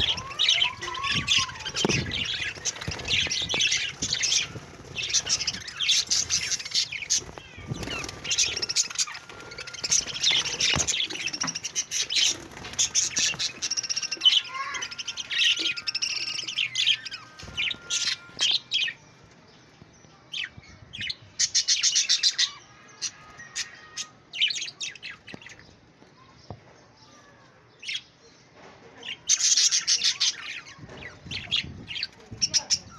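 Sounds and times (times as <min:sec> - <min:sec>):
budgerigars chirping and warbling: 0:00.0 - 0:19.0, 0:20.4 - 0:25.8, 0:29.0 - 0:32.9.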